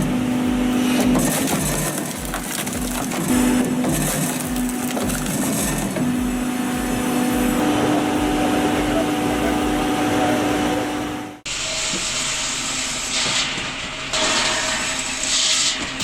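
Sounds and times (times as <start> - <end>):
machine running with a hiss: 0.0 - 16.0
wood-processing machinery humming: 0.0 - 16.0.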